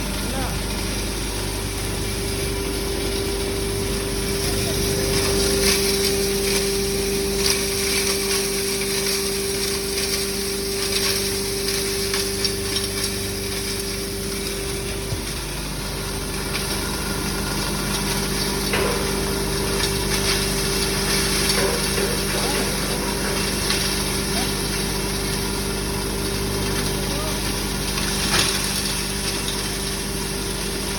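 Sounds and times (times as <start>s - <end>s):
grinding machine motor whine: 0.0s - 30.9s.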